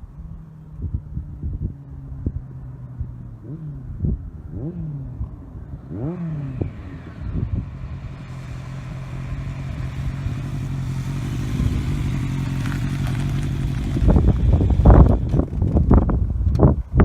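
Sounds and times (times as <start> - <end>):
motorcycle engine approaching: 0.0 - 17.0.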